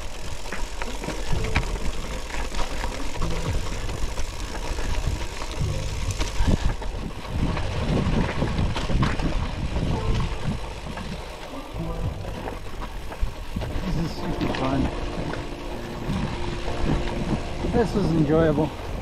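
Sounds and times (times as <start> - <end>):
bike tyres rattling on gravel: 0.0 - 19.0
wind rumble on microphone: 1.2 - 19.0.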